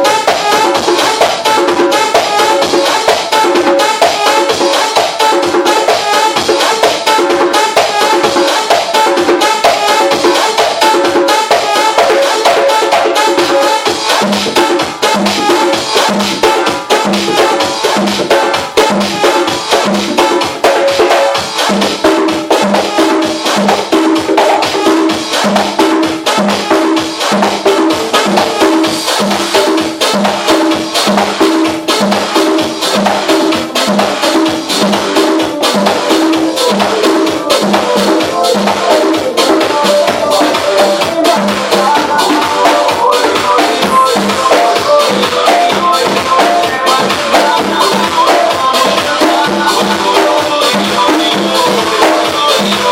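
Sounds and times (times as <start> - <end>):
dance music with steady beat: 0.0 - 52.9.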